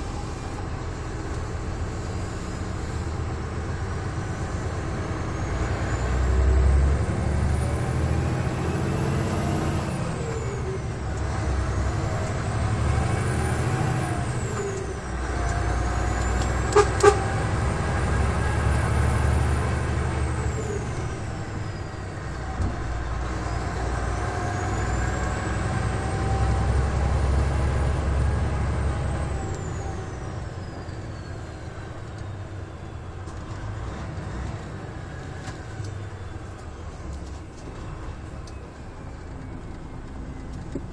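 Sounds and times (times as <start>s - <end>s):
high engine whine: 0.0s - 40.9s
truck diesel engine pulling: 0.0s - 40.9s.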